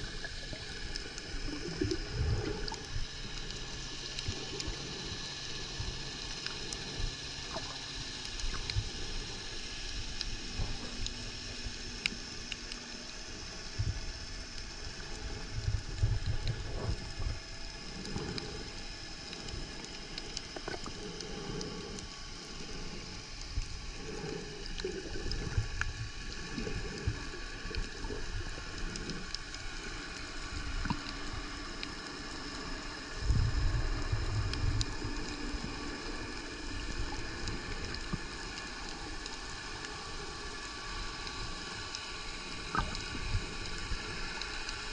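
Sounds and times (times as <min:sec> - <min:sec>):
faint clicks: 0:00.0 - 0:44.9
muffled underwater hiss: 0:00.0 - 0:44.9.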